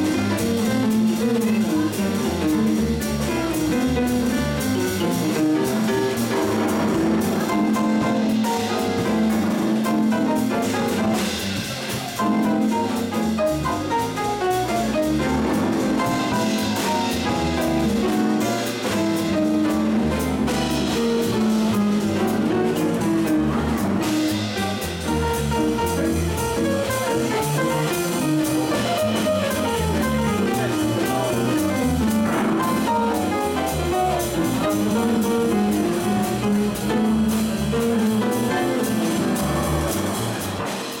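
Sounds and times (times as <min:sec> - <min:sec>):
drum kit: 0:00.0 - 0:41.0
piano: 0:00.0 - 0:41.0
plucked double bass: 0:00.0 - 0:41.0.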